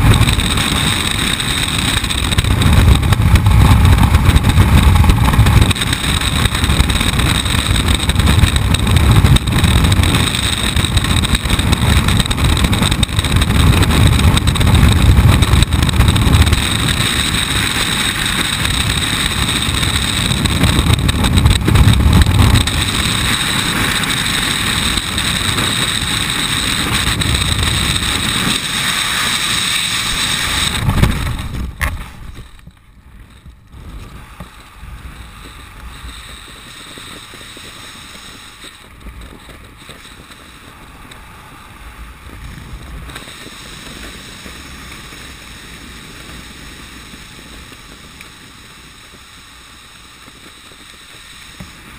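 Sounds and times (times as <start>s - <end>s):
freefall wind blasting: 0.0s - 51.9s.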